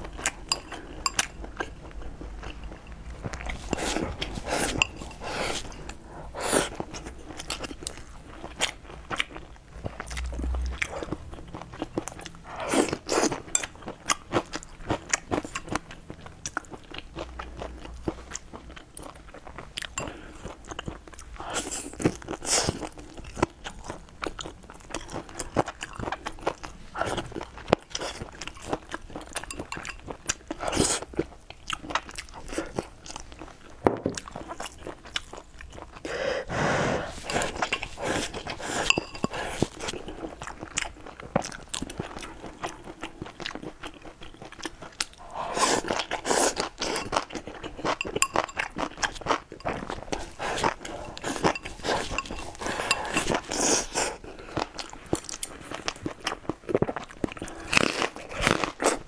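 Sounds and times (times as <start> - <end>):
person chewing and smacking food: 0.0 - 36.2, 37.0 - 59.0.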